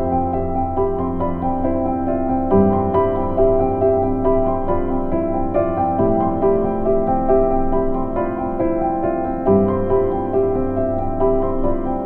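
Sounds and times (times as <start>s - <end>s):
piano-like keyboard melody: 0.0s - 12.0s.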